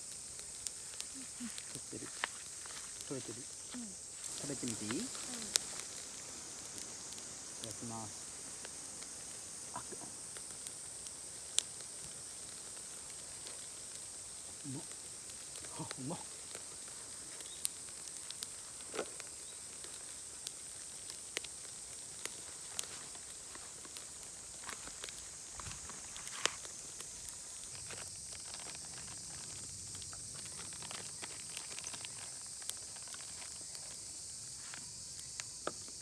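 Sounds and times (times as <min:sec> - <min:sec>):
charcoal fire crackling: 0:00.0 - 0:36.0
steady high hiss: 0:00.0 - 0:36.0.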